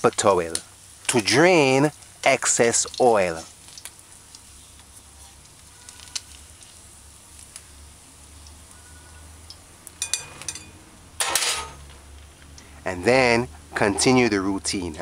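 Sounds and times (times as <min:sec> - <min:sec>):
oil sizzling in frying pan: 0:00.0 - 0:12.2.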